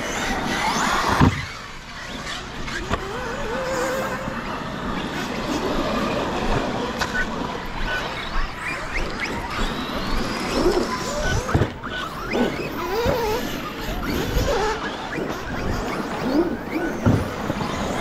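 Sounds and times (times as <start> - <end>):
electric motors whining: 0.0 - 18.0
steady noisy haze: 0.0 - 18.0.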